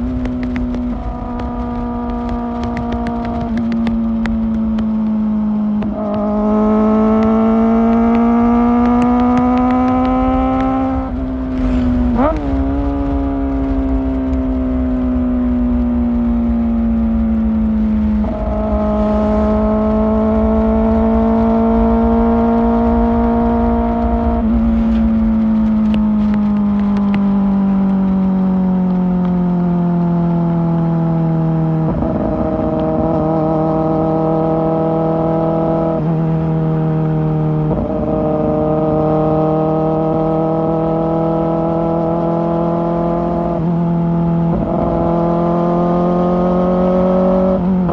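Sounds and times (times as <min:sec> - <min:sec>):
low wind rumble: 0:00.0 - 0:47.9
motorcycle engine at high revs: 0:00.0 - 0:47.9.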